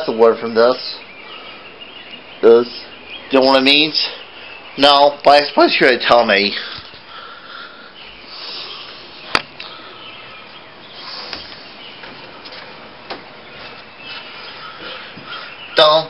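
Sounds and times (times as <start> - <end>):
faint birdsong chirps: 0.0 - 16.0
steady background hiss: 0.0 - 16.0.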